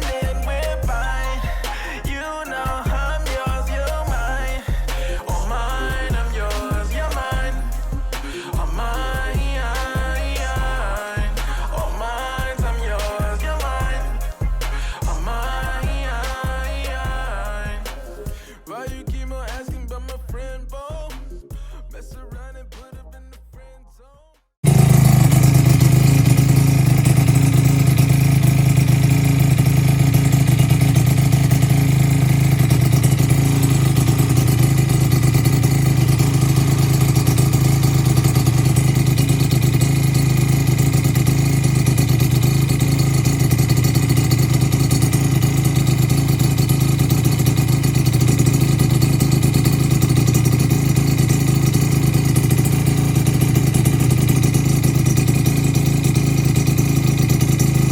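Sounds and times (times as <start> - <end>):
two-stroke engine idling: 0.0 - 20.3, 24.6 - 57.9.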